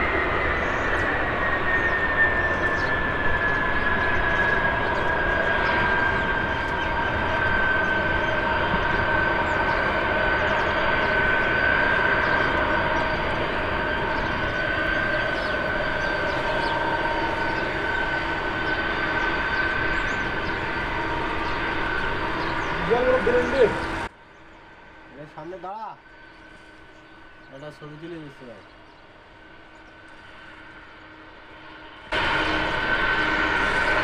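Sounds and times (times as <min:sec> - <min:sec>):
jet engines rumbling and whining: 0:00.0 - 0:34.0.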